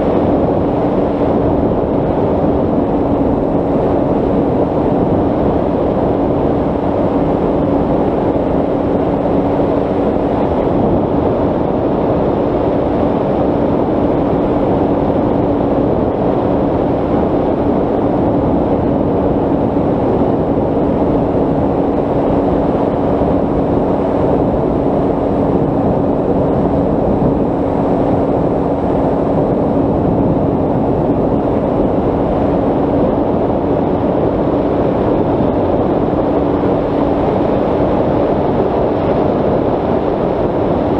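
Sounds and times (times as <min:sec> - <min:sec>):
wind over microphone: 0:00.0 - 0:40.9.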